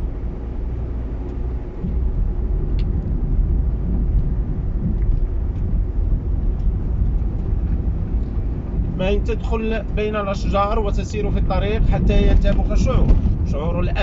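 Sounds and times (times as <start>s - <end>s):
car engine and tyre noise: 0.0s - 14.0s.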